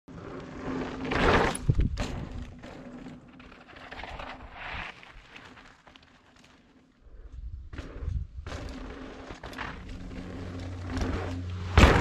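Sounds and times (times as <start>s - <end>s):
bike rattling over bumps: 0.1s - 12.0s.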